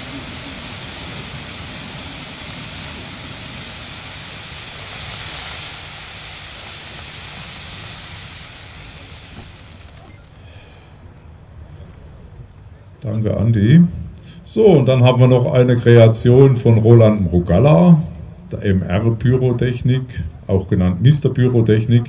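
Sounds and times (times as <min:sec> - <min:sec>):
firework fountains hissing: 0:00.0 - 0:22.0.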